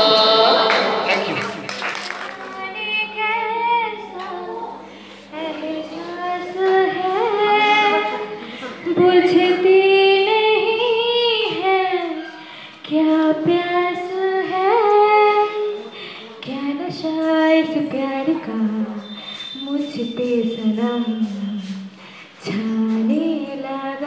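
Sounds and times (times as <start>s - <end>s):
women singing into microphones: 0.0s - 1.6s, 2.4s - 24.0s.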